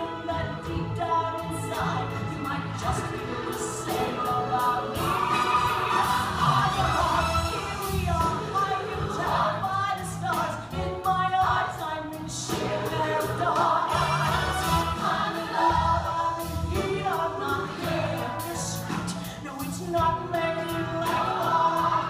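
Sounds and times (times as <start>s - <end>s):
several voices singing together: 0.0s - 22.0s
show tune with band: 0.0s - 22.0s.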